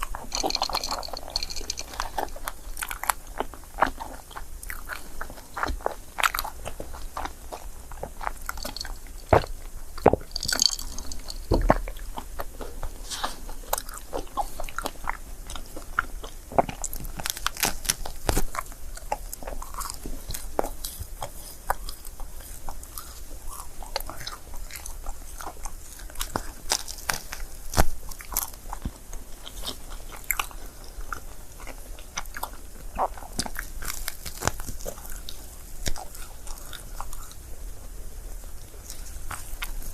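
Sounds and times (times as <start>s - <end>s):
person biting and chewing: 0.0s - 39.9s.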